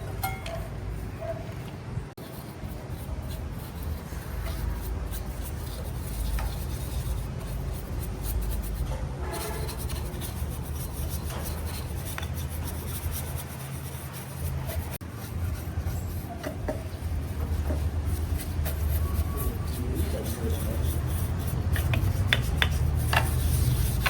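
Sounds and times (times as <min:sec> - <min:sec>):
hand rubbing and scraping: 0:00.0 - 0:24.0.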